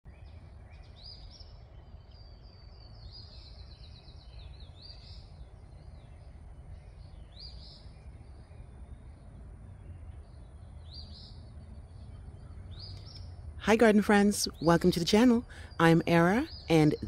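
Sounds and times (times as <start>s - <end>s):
low outdoor rumble: 0.1s - 17.0s
songbirds chirping: 0.1s - 17.0s.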